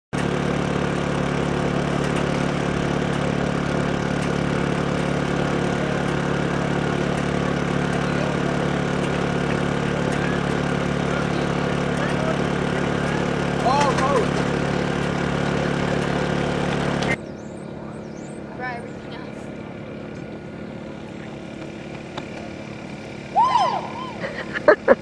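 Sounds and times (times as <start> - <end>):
low motor hum: 0.2 - 25.0.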